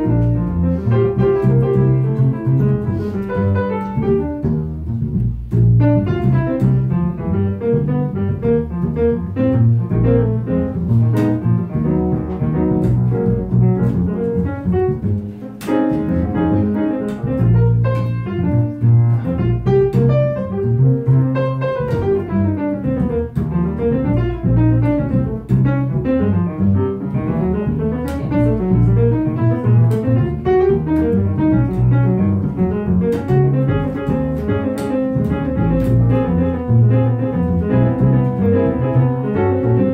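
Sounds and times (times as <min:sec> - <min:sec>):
piano: 0:00.0 - 0:39.9
upright bass: 0:00.0 - 0:39.9.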